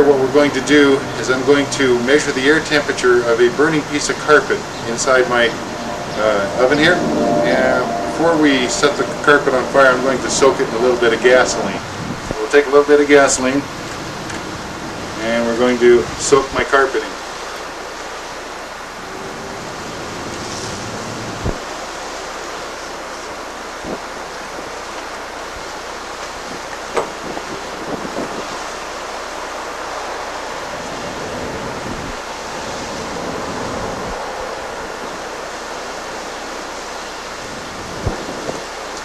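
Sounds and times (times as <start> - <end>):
wind on microphone: 0.0 - 39.0.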